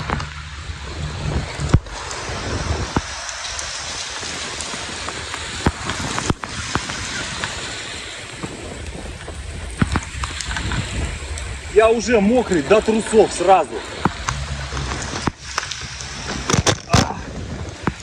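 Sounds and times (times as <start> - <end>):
rain pouring on road: 0.0 - 18.0
raindrops clicking on camera: 0.0 - 18.0.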